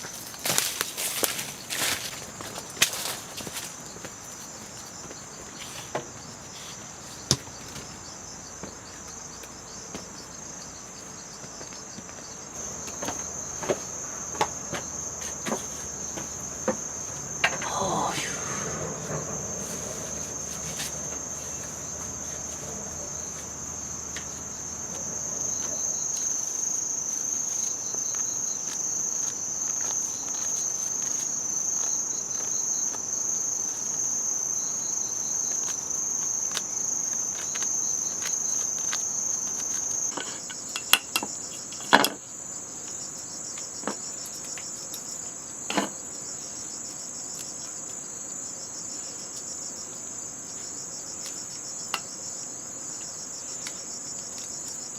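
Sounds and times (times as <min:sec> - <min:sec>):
insects shrilling: 0:00.0 - 0:49.0.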